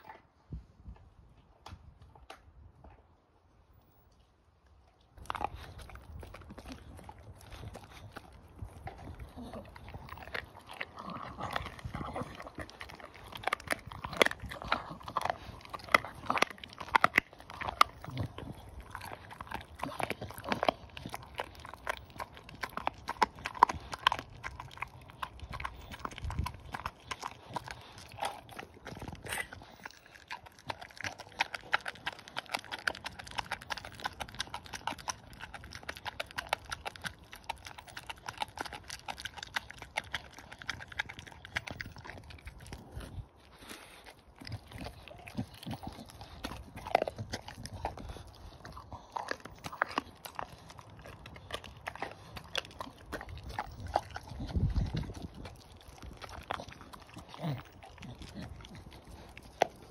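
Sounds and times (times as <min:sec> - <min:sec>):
puppy chewing wet crunches: 0:00.0 - 0:03.2, 0:03.8 - 0:59.9.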